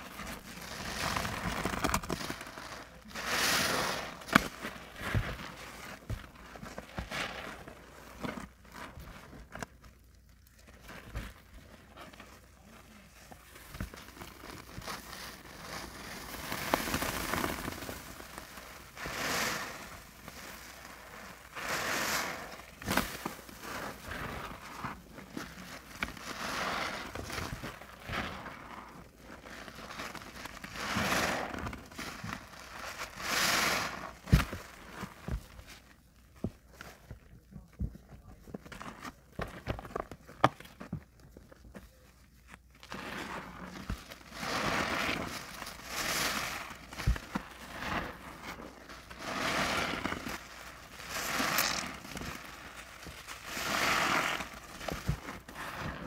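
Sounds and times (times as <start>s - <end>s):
sponges squelching in soapy water: 0.0s - 56.0s.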